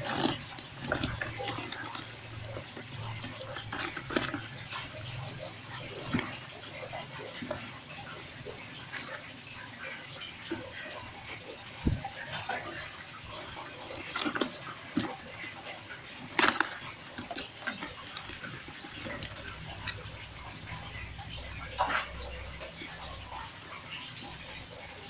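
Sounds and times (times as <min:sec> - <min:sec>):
fish splashing in plastic basin: 0:00.0 - 0:25.0.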